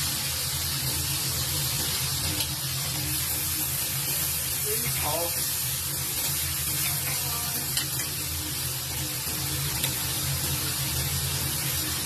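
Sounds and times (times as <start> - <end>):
vegetables sizzling in woks: 0.0 - 12.0.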